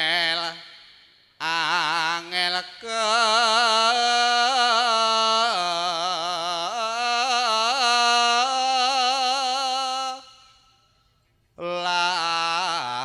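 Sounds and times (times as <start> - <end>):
solo voice singing unaccompanied: 0.0 - 10.5, 11.6 - 13.0.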